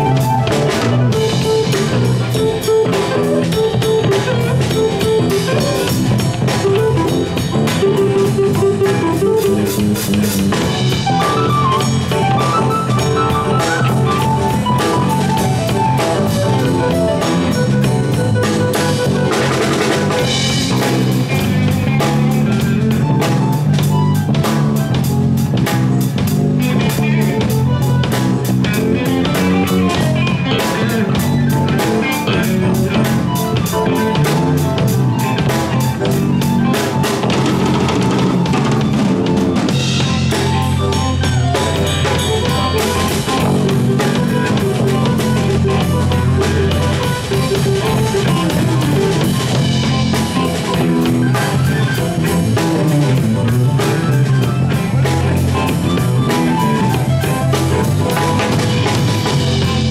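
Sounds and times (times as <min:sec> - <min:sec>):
drum kit beat: 0:00.0 - 0:59.9
electric guitars: 0:00.0 - 0:59.9
keyboards: 0:00.0 - 0:59.9.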